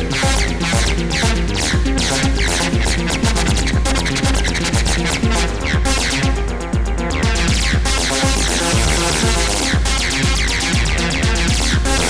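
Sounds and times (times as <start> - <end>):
synth bass line: 0.0 - 12.0
kick-like pulse: 0.2 - 12.0.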